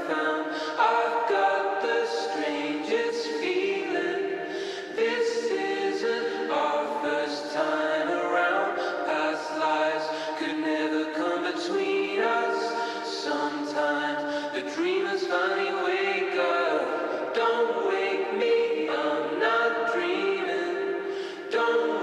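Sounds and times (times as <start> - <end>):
voices singing in harmony: 0.0 - 22.0.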